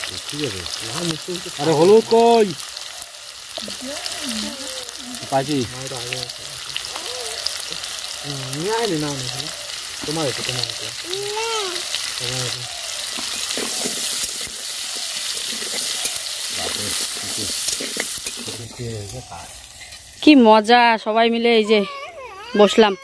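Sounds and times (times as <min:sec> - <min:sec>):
potatoes sizzling in hot oil: 0:00.0 - 0:21.7.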